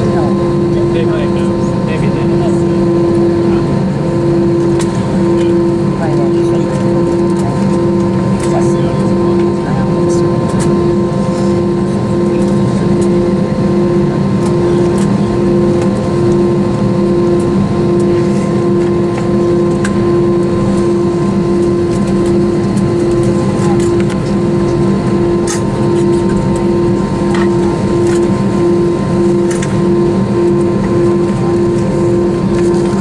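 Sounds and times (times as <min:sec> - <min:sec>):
aircraft cabin engine drone: 0:00.0 - 0:33.0.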